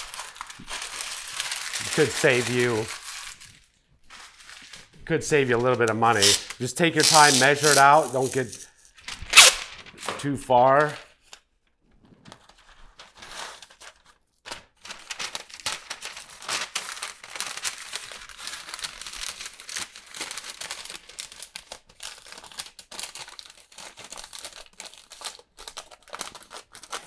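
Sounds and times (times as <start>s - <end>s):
paper crinkling and rustling: 0.0s - 27.0s.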